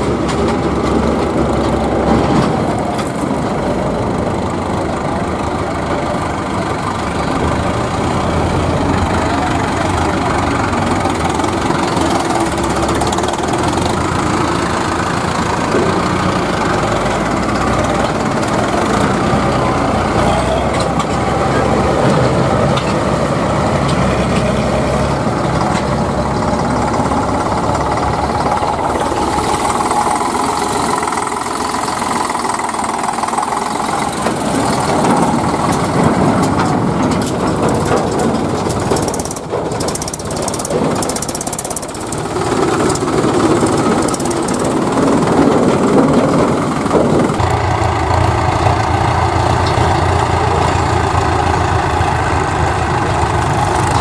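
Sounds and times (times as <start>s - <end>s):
diesel tractor engines running: 0.0s - 54.0s.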